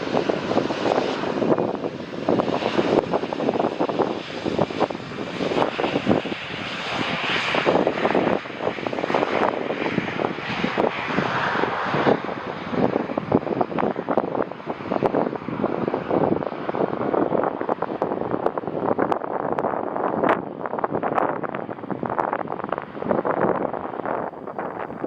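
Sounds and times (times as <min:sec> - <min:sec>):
jet engines passing close: 0:00.0 - 0:25.0.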